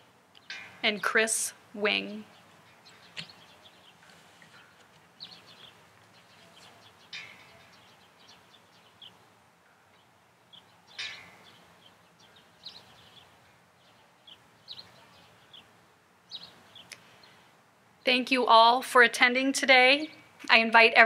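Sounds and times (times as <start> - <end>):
faint outdoor hush: 0.0 - 18.2
small birds chirping: 0.3 - 18.2.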